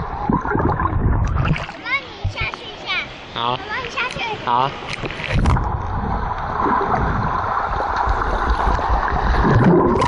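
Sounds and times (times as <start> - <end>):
muffled underwater churning water: 0.0 - 2.5, 3.1 - 10.0.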